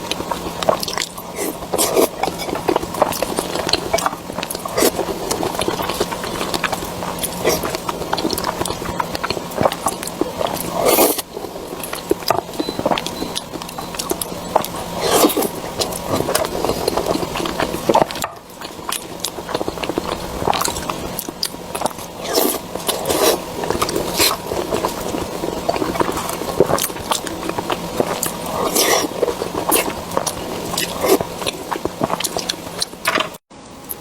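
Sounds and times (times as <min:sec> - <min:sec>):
wet chewing and bites: 0:00.0 - 0:33.4.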